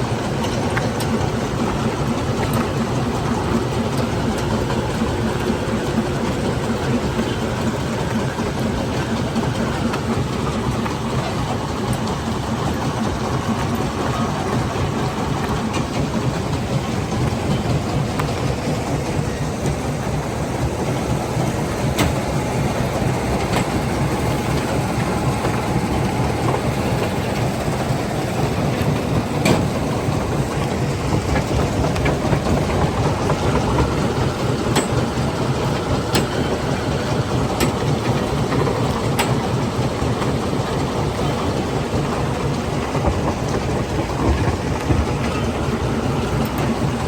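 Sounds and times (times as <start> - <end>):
stone crushing machinery rumbling: 0.0 - 47.0.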